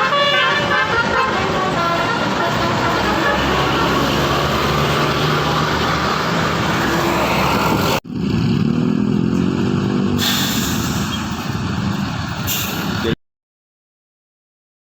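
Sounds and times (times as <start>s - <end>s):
heavy bus engines: 0.0s - 13.2s
road noise: 0.0s - 13.2s.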